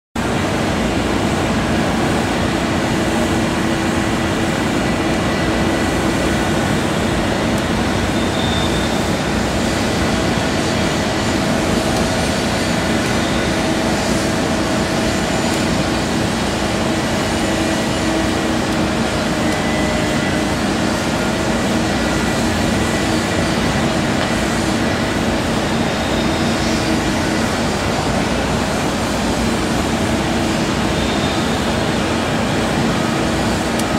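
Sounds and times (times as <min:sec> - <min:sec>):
excavator diesel engine droning: 0:00.2 - 0:33.9.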